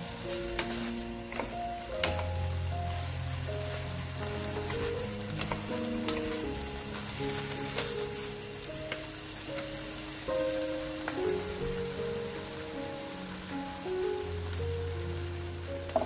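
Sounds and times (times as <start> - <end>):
gentle background music: 0.0 - 16.0
vegetables sizzling in a wok: 0.0 - 16.0.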